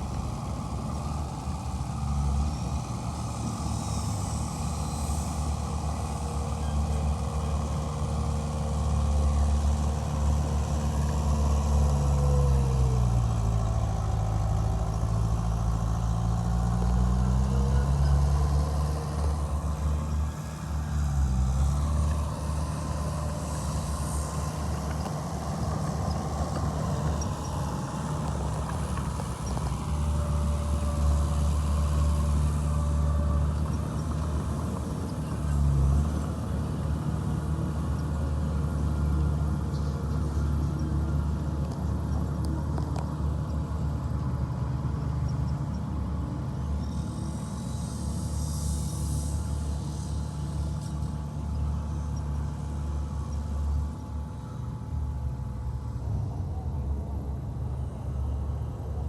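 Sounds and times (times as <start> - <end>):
diesel engine under changing load: 0.0 - 59.0.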